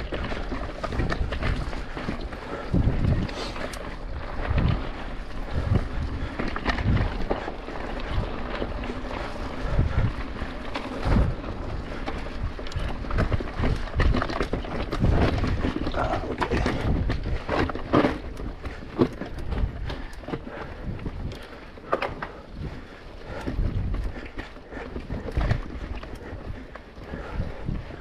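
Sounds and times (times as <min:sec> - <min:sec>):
bike rattling: 0:00.0 - 0:28.0
bike tyre and drivetrain noise: 0:00.0 - 0:28.0.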